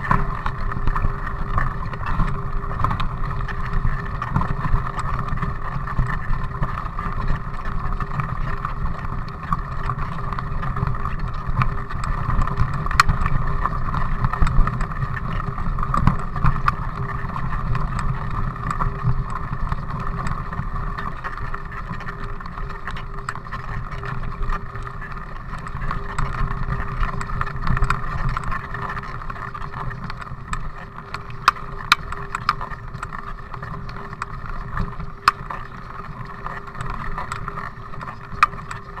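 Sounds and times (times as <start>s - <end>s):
bike clicks and rattles: 0.0s - 39.0s
bike tyres rumbling on gravel: 0.0s - 39.0s.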